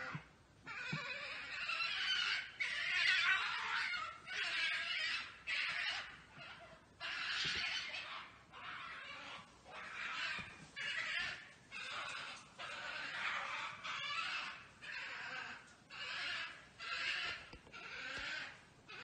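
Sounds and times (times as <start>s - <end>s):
badgers giving rasping calls: 0.0s - 19.0s.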